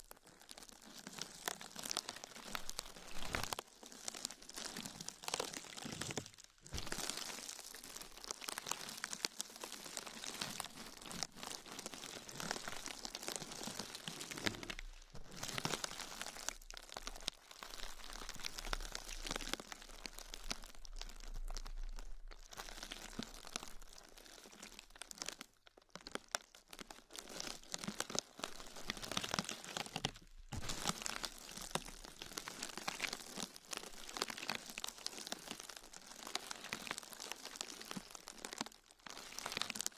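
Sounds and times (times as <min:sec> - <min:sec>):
crinkling and crackling being crumpled: 0:00.0 - 0:39.9.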